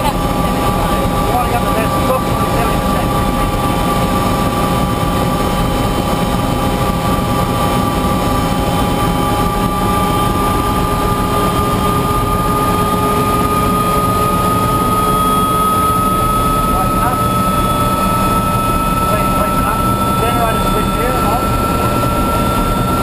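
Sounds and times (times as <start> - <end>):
helicopter rotor and engine: 0.0 - 23.0
helicopter turbine whine: 0.0 - 23.0.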